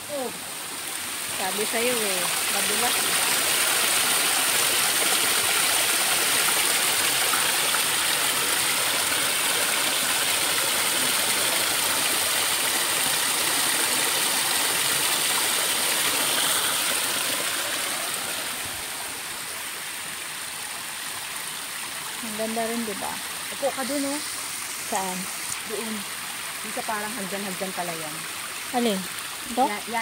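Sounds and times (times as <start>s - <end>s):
stream splashing over boulders: 0.0s - 30.0s.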